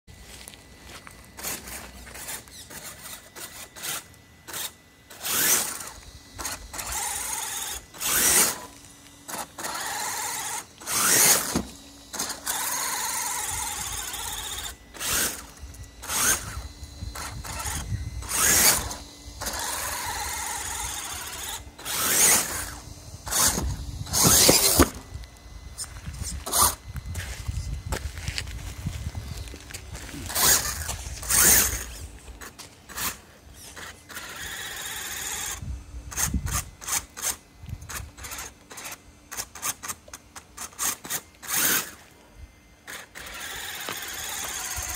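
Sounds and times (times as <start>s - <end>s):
electric motor whining: 0.2s - 44.9s.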